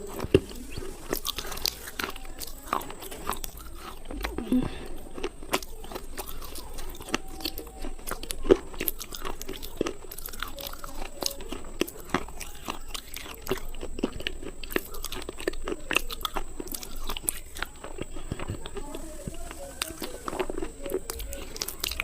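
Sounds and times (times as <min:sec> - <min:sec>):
crunching and snapping bites: 0:00.0 - 0:22.0.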